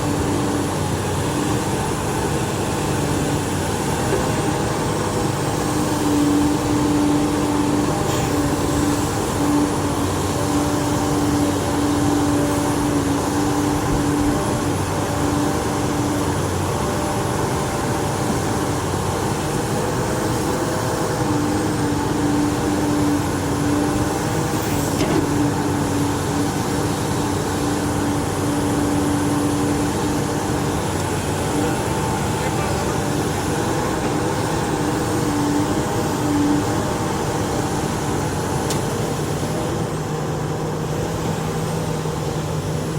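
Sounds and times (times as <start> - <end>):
excavator engine drone: 0.0 - 42.9.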